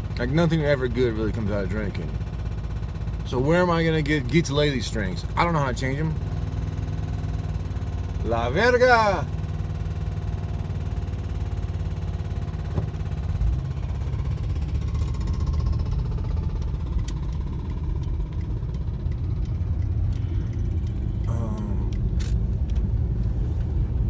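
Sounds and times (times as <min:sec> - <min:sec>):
car road noise rumble: 0:00.0 - 0:24.0.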